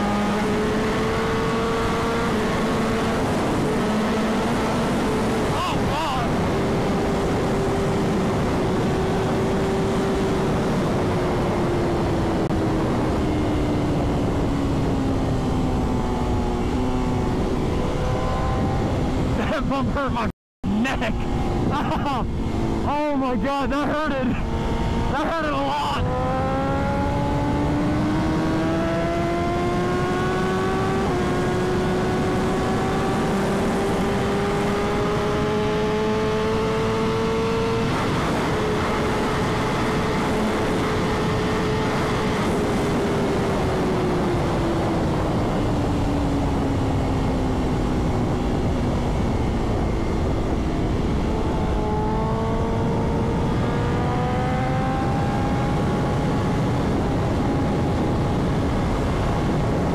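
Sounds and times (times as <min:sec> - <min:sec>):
loud wind rush: 0:00.0 - 0:59.9
motorcycle engine at full throttle: 0:00.0 - 0:59.9.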